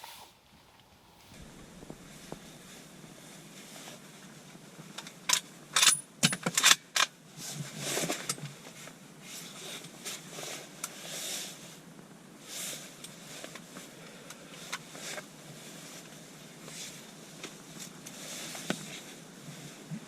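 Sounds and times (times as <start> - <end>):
soft rustling: 0.0 - 5.0, 7.4 - 20.0.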